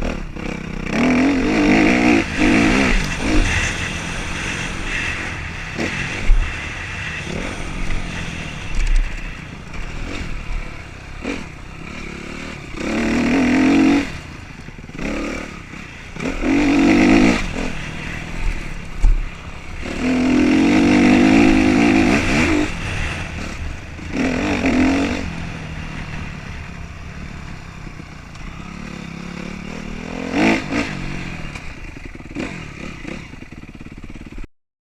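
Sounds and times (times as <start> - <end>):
motocross bikes racing past: 0.0 - 34.5.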